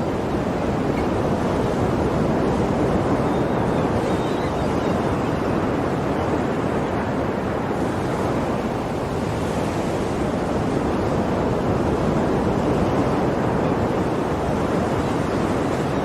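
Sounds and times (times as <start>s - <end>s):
sea waves and surf washing: 0.0s - 16.0s.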